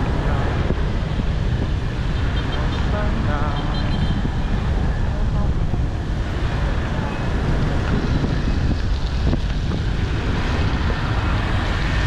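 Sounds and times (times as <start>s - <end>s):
low rumble of traffic: 0.0s - 12.0s
wind rush on microphone: 0.0s - 12.0s.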